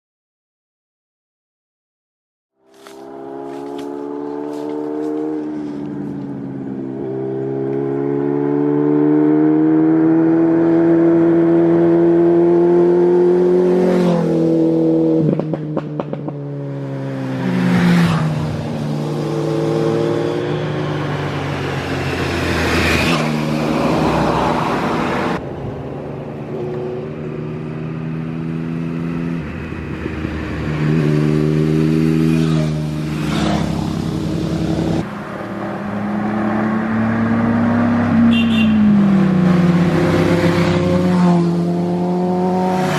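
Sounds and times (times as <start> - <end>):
motorcycle engines revving: 2.6 - 42.9.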